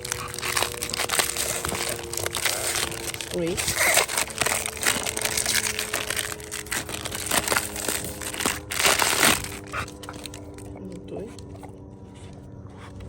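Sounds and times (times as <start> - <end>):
packaging crinkling and rustling: 0.0 - 10.7.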